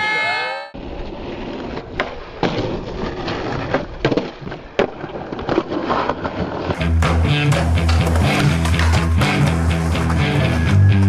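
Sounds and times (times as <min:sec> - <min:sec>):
skateboard rolling on concrete: 0:00.8 - 0:11.0
skateboard clacks: 0:01.3 - 0:11.0.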